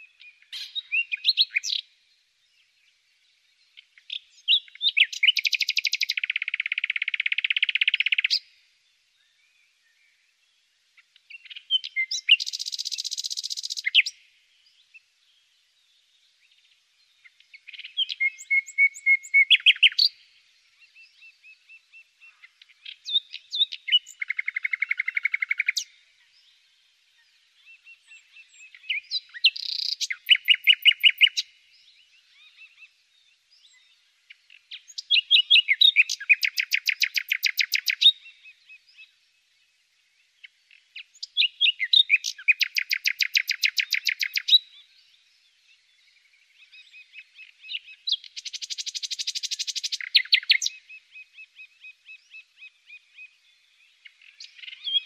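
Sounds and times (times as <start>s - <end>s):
songbird singing trills: 0.0s - 55.0s.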